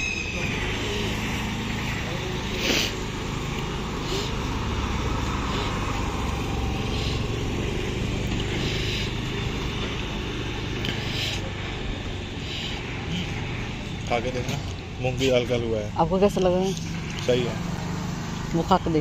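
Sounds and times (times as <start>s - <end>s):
motor scooter passing: 0.0s - 19.0s
road traffic rumble: 0.0s - 19.0s.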